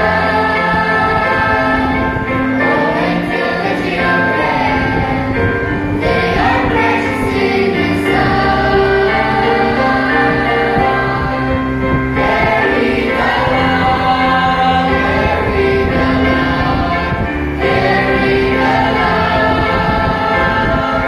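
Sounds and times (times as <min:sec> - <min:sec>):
children's choir singing a hymn: 0:00.0 - 0:21.0
instrumental accompaniment: 0:00.0 - 0:21.0.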